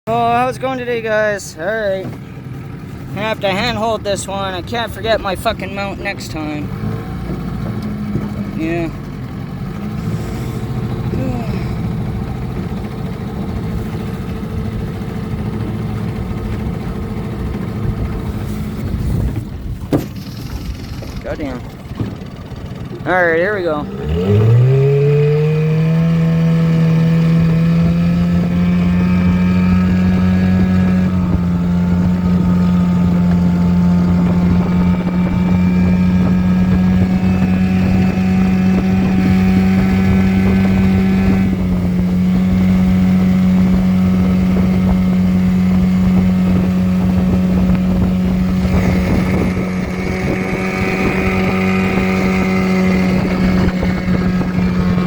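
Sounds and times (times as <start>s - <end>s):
outboard motor droning: 0.1s - 55.0s.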